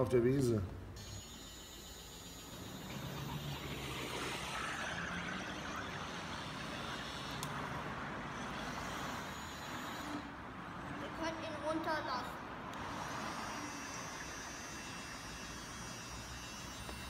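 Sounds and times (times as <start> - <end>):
model trucks whirring: 1.0 - 17.0.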